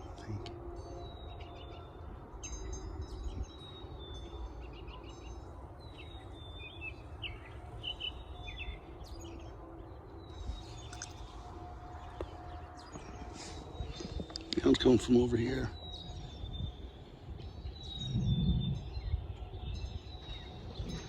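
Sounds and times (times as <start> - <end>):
distant warning sirens: 0.0 - 21.0
songbirds chirping: 0.0 - 21.0.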